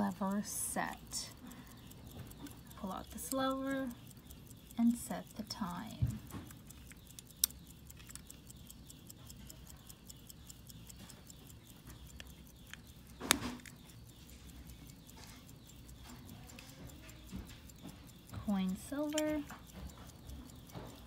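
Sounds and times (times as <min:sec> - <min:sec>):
metallic click of watch: 0:00.0 - 0:21.0
pocket watch ticking: 0:00.0 - 0:21.0.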